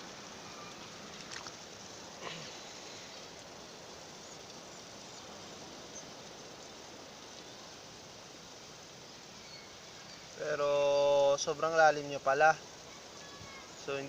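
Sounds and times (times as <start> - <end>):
sea wash hiss: 0.0 - 14.0.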